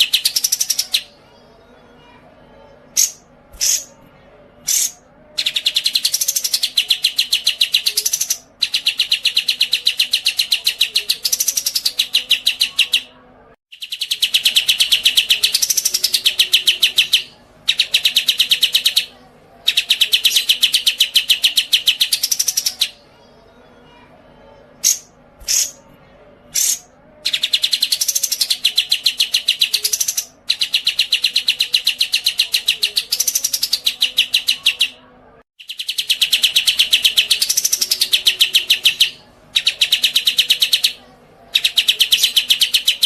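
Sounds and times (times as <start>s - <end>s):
songbird chirping and trilling: 0.0s - 43.0s.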